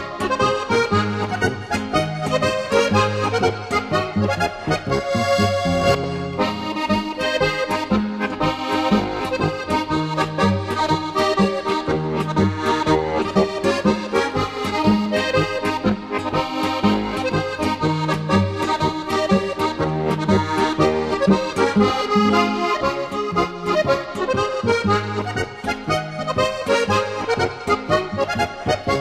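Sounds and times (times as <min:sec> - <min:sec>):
button accordion folk tune: 0:00.0 - 0:29.0
alternating bass notes: 0:00.2 - 0:29.0.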